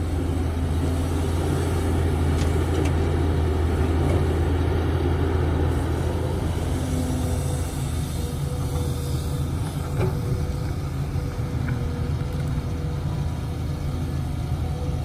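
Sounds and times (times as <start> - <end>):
diesel excavator engine rumbling: 0.0 - 15.0.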